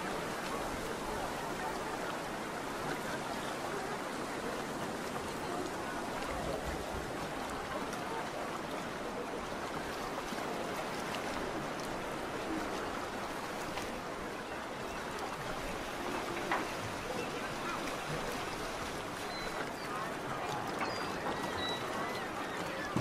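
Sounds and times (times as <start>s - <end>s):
waves lapping against boats: 0.0s - 23.0s.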